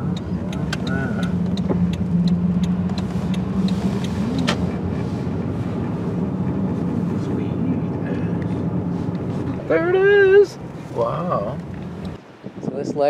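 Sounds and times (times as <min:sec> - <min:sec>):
car engine and tyre hum: 0:00.0 - 0:12.6.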